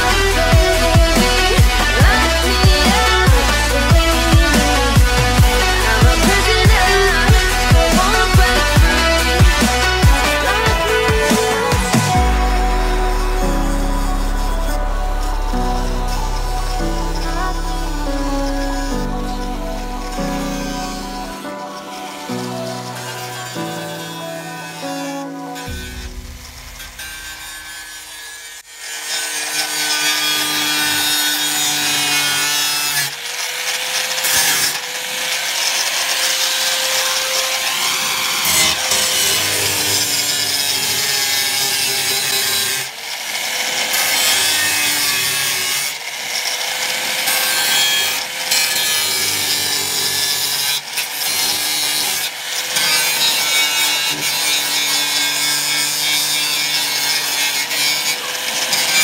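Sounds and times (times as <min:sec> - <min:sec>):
angle grinder grinding metal: 0:00.0 - 0:59.0.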